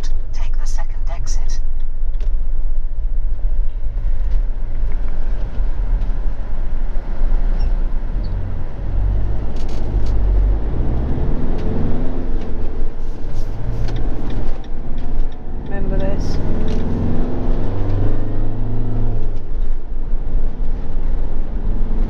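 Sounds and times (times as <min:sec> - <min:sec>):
engine and tyre rumble: 0:00.0 - 0:22.0.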